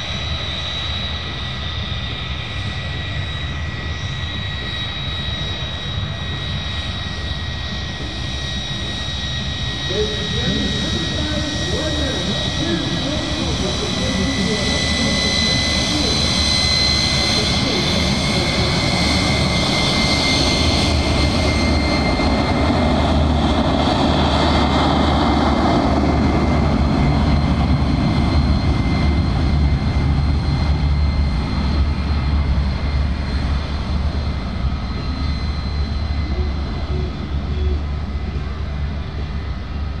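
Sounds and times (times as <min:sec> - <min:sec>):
jet engine rush and whine: 0:00.0 - 0:40.0.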